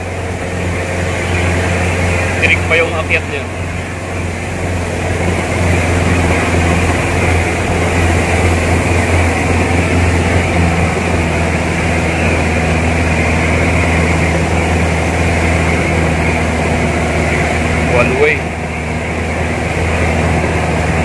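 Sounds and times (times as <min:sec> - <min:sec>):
vehicle engine running under load: 0:00.0 - 0:21.0.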